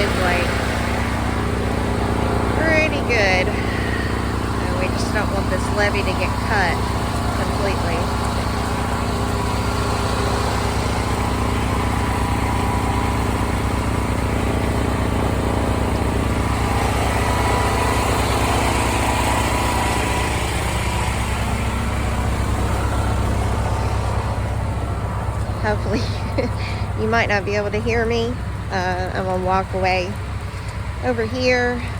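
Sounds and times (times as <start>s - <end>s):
generator running: 0.0s - 31.9s
tractor engine running: 0.0s - 31.9s.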